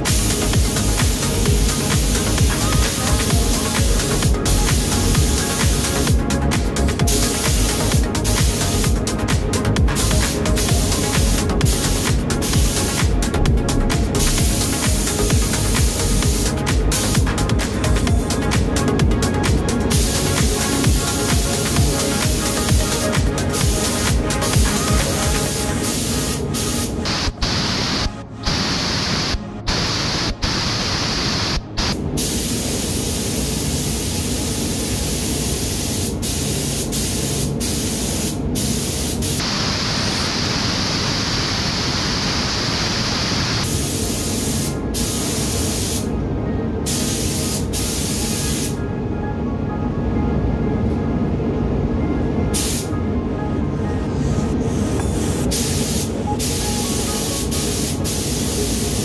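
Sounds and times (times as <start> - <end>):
paint spray gun hissing: 0.0 - 17.9, 19.8 - 46.1, 46.9 - 48.8, 52.6 - 52.9, 55.1 - 59.0
background music: 0.0 - 38.6, 43.6 - 59.0.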